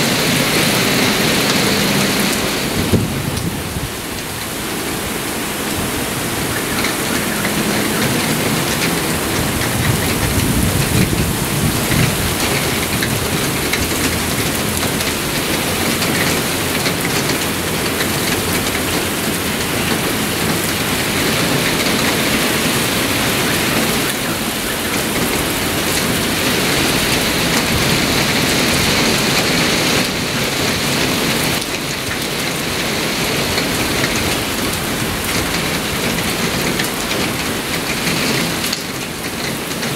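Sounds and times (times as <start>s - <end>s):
heavy rain hissing: 0.0s - 39.9s
wind gusting through trees: 0.0s - 39.9s.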